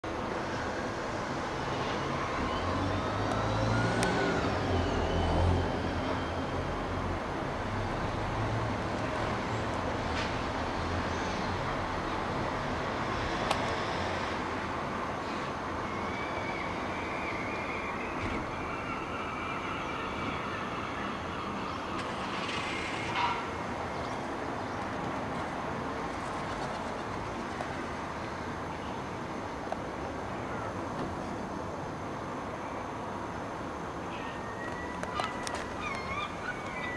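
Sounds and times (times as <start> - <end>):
distant engines rumbling: 0.0 - 36.9.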